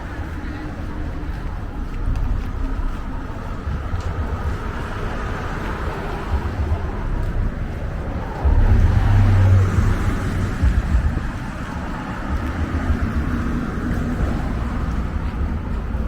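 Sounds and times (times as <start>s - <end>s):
traffic going by: 0.0s - 16.0s
uneven low rumble: 0.0s - 16.0s.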